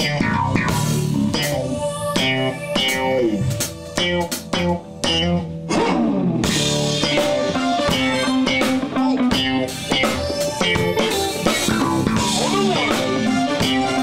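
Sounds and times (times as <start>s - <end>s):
electric bass guitar: 0.0s - 14.0s
funk band playing: 0.0s - 14.0s.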